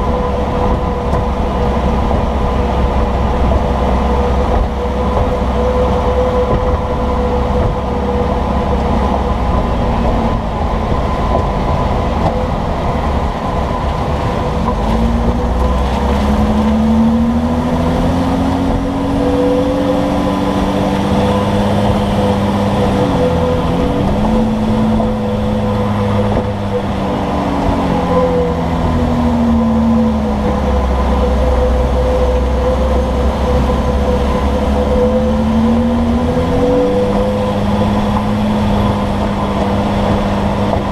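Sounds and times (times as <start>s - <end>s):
vehicle road rumble: 0.0s - 40.9s.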